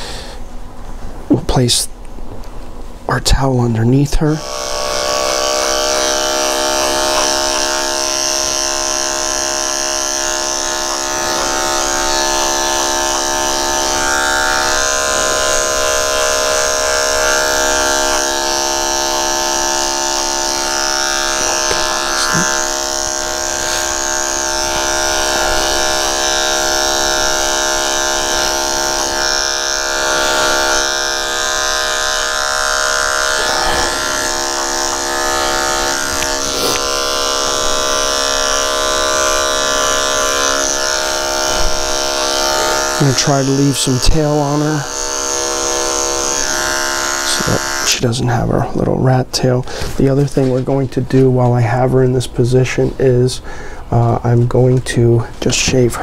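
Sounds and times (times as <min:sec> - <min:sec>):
electric clippers humming: 0:03.7 - 0:56.0.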